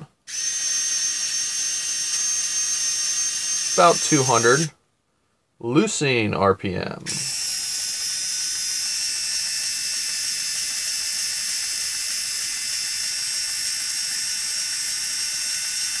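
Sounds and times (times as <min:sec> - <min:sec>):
cordless screwdriver motor whine: 0:00.3 - 0:04.7, 0:07.1 - 0:16.0.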